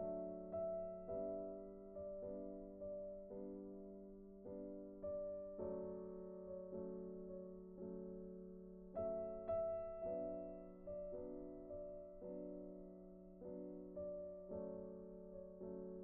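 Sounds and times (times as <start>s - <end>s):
slow piano notes: 0.0s - 16.0s.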